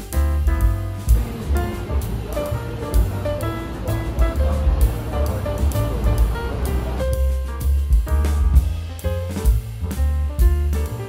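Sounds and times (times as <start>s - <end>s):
background music with drums and bass: 0.0s - 11.0s.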